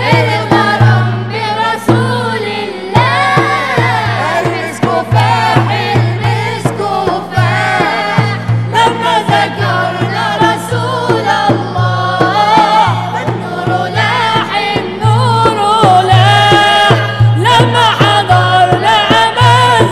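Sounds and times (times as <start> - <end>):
mixed choir singing: 0.0 - 19.9
steady drum beat: 0.0 - 19.9.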